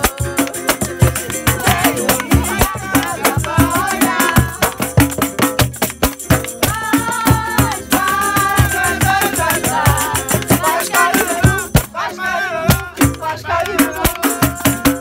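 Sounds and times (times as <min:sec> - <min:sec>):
people singing along: 0:00.0 - 0:04.9, 0:06.6 - 0:15.0
ukulele strumming: 0:00.0 - 0:14.4.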